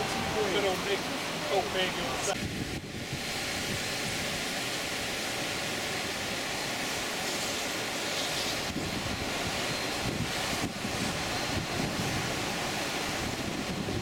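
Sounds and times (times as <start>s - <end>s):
creek rushing through rapids: 0.0s - 14.0s.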